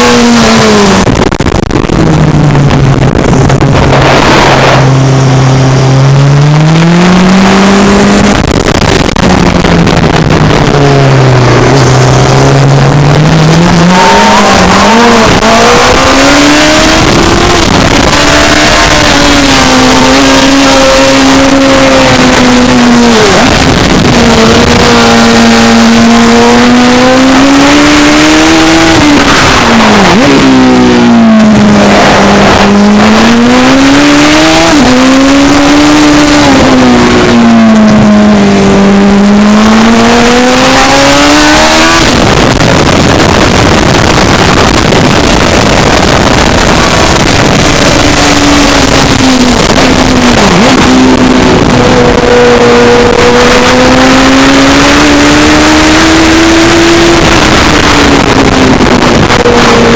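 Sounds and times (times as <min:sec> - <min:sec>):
constant loud rush: 0:00.0 - 0:59.9
racing engine revving: 0:00.0 - 0:59.9.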